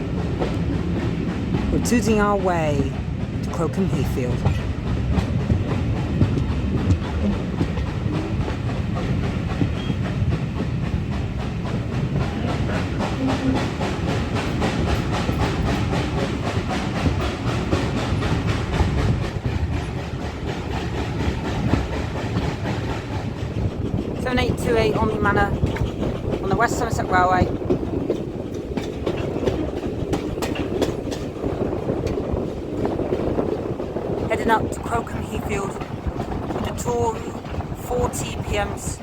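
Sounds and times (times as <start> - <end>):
train wheels rumbling on rails: 0.0 - 39.0
wheels clattering over track joints: 0.0 - 39.0.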